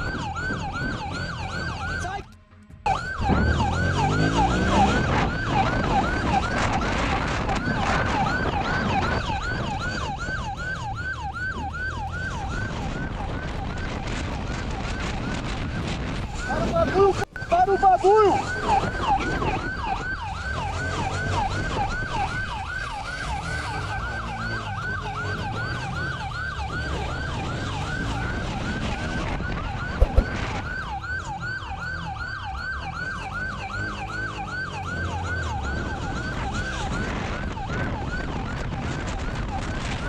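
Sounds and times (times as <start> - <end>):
police siren yelping: 0.0 - 40.0
road and engine noise: 0.0 - 40.0.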